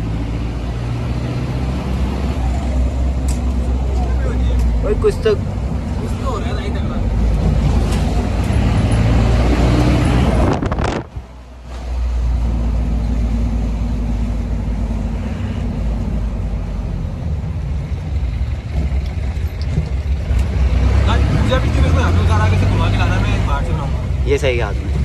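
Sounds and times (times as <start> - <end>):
jeep engine with loud exhaust droning: 0.0 - 25.0.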